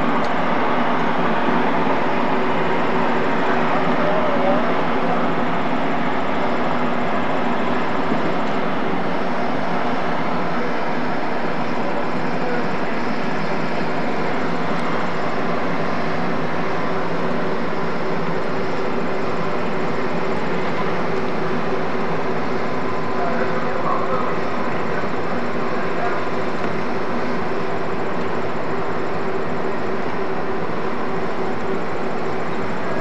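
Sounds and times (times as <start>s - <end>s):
steamship machinery drone: 0.0s - 33.0s.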